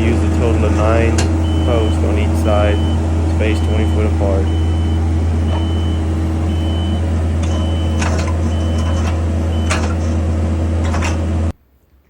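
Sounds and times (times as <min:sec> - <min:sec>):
heavy machine running: 0:00.0 - 0:11.5
back-up alarm beeping: 0:00.2 - 0:10.0.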